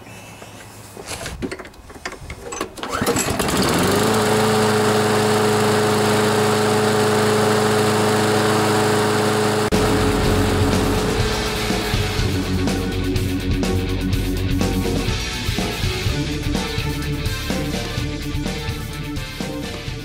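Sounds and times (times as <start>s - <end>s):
lawn mower engine starting and running: 1.0s - 20.0s.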